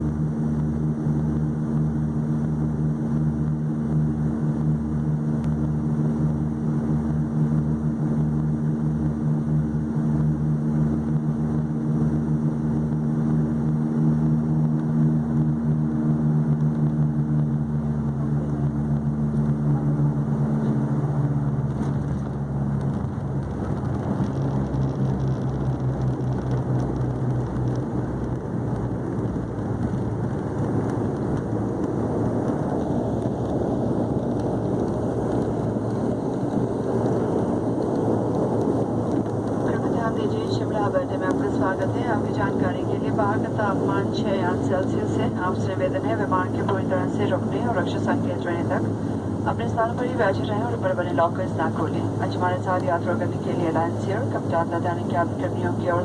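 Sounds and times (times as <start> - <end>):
low rough rumble: 0.0 - 56.0
propeller drone in aircraft cabin: 0.0 - 56.0.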